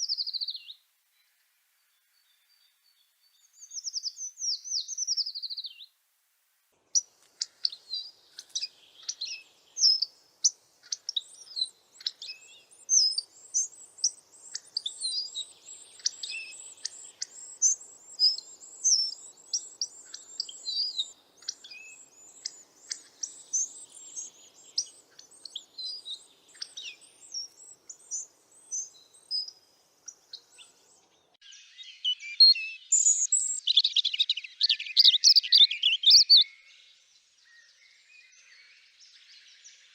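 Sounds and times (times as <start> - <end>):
bird chirping: 0.0 - 6.0, 6.8 - 39.9.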